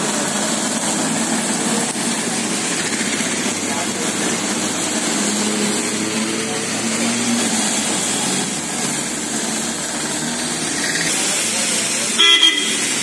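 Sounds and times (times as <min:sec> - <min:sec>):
vehicle engines passing: 0:00.0 - 0:12.1
steady hiss of wet road: 0:00.0 - 0:13.0.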